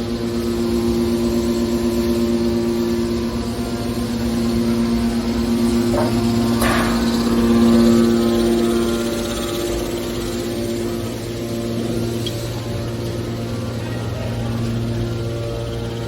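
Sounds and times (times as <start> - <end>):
hydraulic power unit humming: 0.0 - 16.0.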